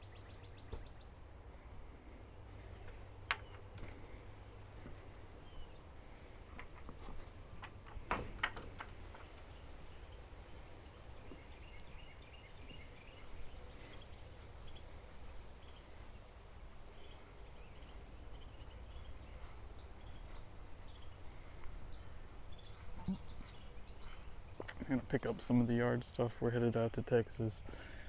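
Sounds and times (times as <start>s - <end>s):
low rumble of wind: 0.0s - 28.0s
small birds chirping: 0.0s - 28.0s.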